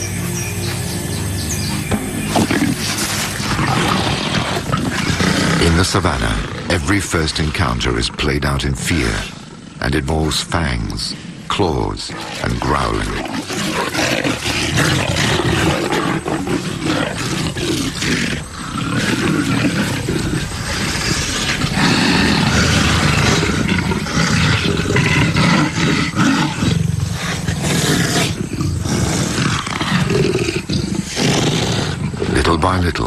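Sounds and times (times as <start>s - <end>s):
leopards growling and snarling: 0.0s - 33.0s.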